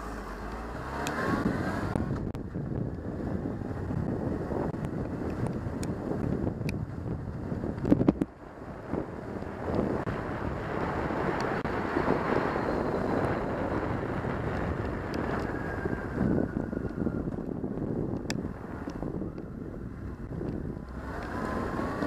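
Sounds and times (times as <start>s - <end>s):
motorcycle tyres on wet road: 0.0s - 22.0s
wind buffeting microphone: 0.8s - 22.0s
heavy wind thumps: 1.1s - 22.0s.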